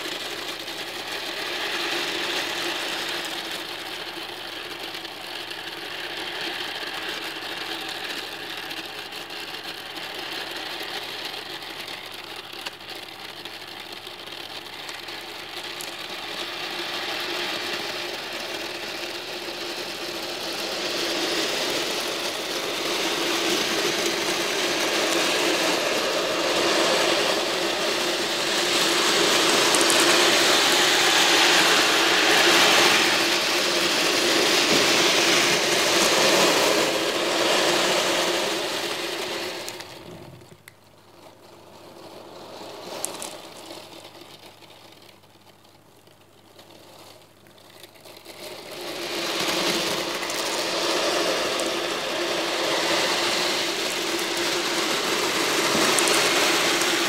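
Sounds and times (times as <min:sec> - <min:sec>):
steel balls rattling: 0:00.0 - 0:57.0.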